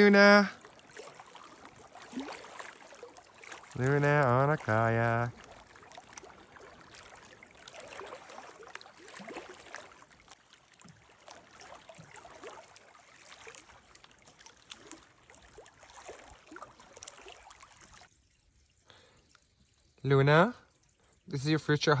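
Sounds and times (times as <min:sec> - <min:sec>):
small splashes and drips: 0:00.0 - 0:22.0
water lapping and gurgling: 0:00.0 - 0:22.0.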